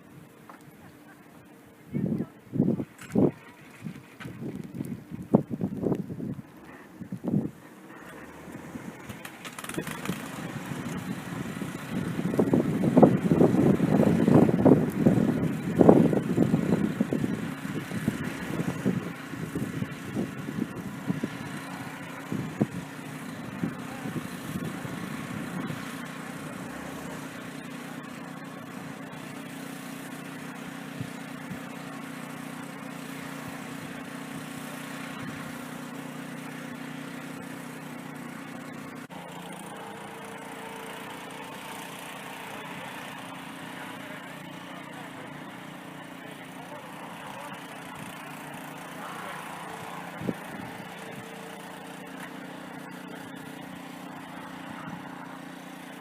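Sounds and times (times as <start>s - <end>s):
car engine humming: 0.0s - 56.0s.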